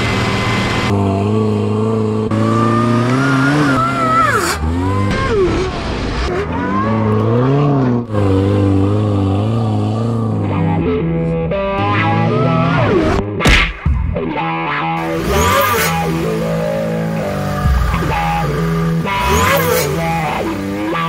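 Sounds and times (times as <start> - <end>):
supercharger whine: 0.0 - 13.3, 14.4 - 21.0
engine revving: 0.0 - 21.0.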